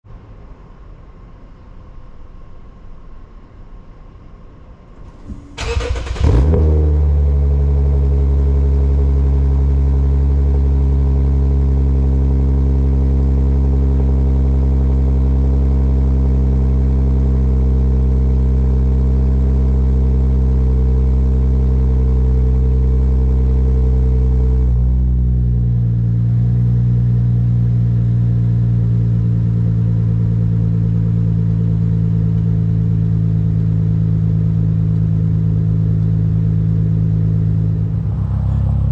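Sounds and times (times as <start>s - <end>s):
car engine revving and idling: 5.1s - 38.9s.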